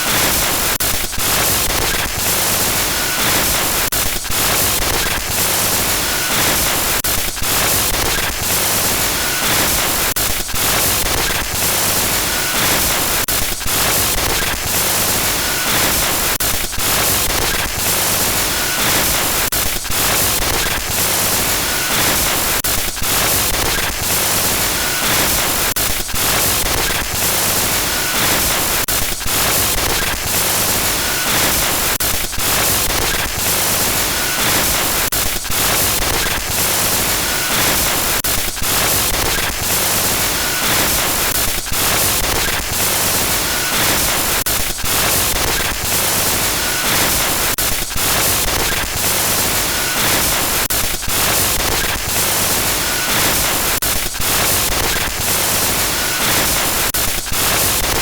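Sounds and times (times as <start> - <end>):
stuttering digital static hiss: 0.0 - 58.0.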